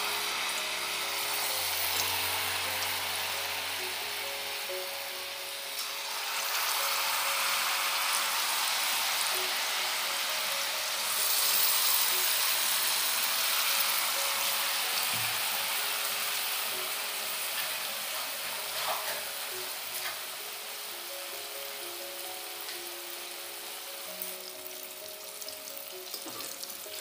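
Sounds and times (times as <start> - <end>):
batter sizzling in hot oil: 0.0 - 27.0.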